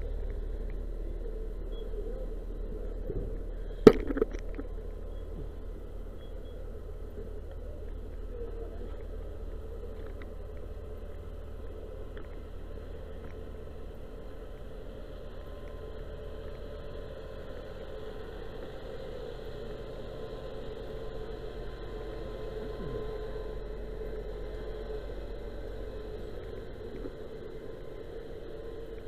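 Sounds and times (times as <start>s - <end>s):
fire engine humming: 0.0s - 29.0s.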